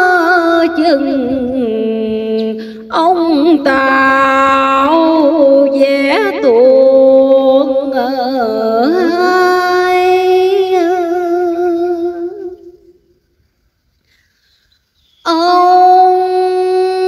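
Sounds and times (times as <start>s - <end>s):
woman chanting verse: 0.0s - 12.7s, 15.2s - 17.0s.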